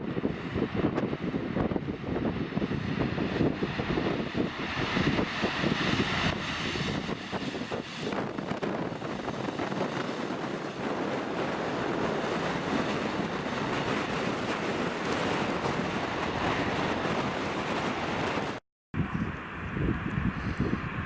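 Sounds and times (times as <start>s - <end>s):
jet engine roar: 0.0s - 21.0s
wind buffeting microphone: 0.0s - 21.0s.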